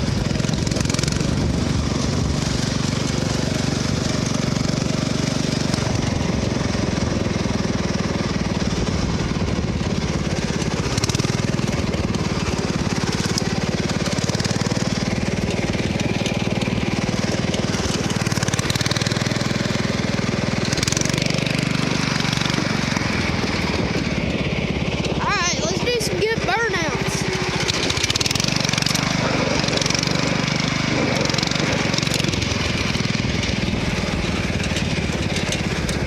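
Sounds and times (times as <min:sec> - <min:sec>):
lawn mower engine putter: 0:00.0 - 0:36.0.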